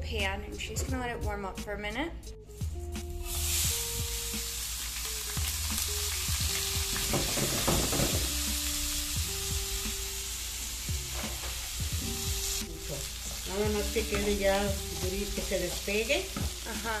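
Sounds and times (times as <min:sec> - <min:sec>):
rice sizzling in hot oil: 0:03.2 - 0:17.0.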